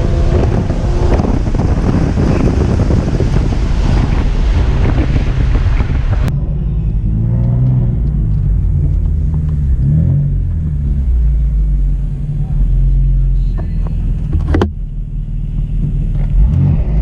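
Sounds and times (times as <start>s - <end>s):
car engine revving: 0.0s - 17.0s
wind and road noise: 0.0s - 17.0s.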